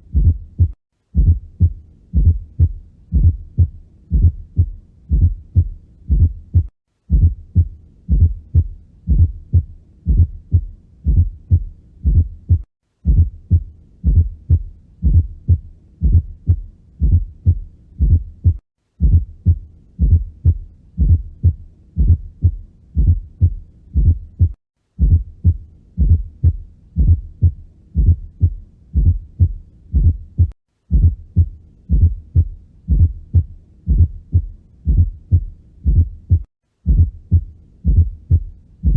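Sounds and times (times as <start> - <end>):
heart sounds through stethoscope: 0.0 - 38.9.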